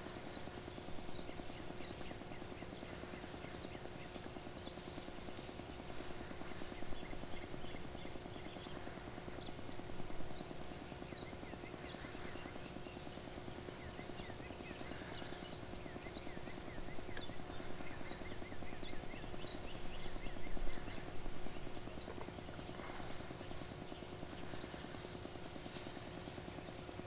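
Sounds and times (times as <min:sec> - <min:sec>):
low electronic hum: 0:00.0 - 0:27.0
small birds chirping: 0:00.0 - 0:27.0.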